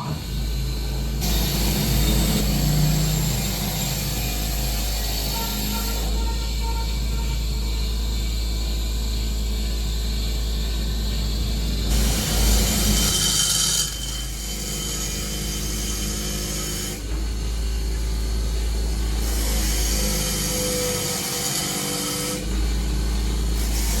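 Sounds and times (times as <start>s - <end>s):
power tool working on metal: 0.0s - 24.0s.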